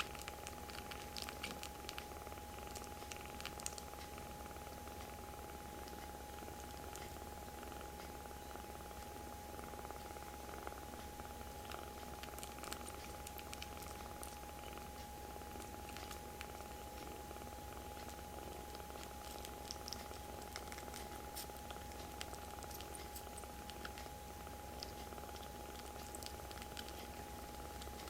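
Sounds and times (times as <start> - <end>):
kitten purring: 0.0 - 28.0.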